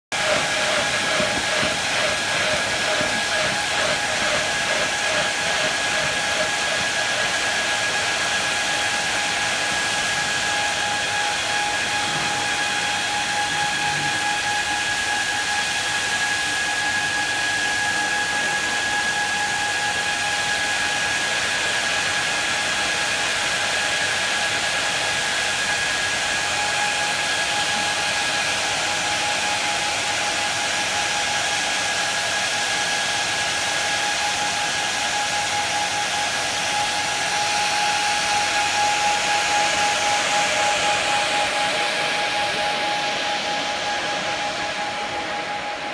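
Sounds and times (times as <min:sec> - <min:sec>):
electric blowers running: 0:00.0 - 0:45.9.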